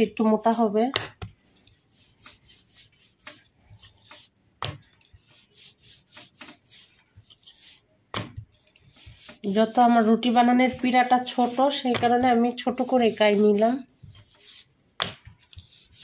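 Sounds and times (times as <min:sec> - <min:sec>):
rolling pin rubbing over dough: 0:00.0 - 0:01.0, 0:01.7 - 0:14.7, 0:15.4 - 0:16.0.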